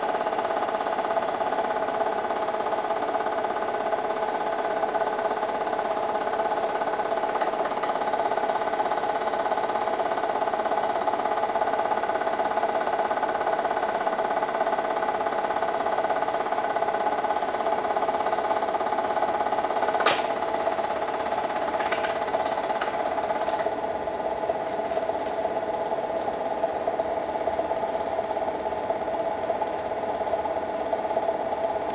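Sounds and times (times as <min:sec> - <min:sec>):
film projector clattering: 0:00.0 - 0:28.5.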